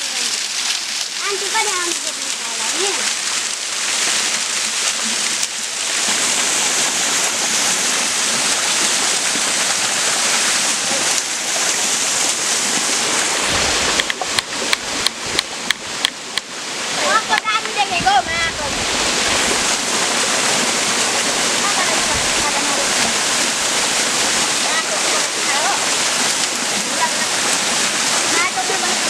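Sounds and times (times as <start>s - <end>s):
waterfall rushing and splashing: 0.0s - 29.0s.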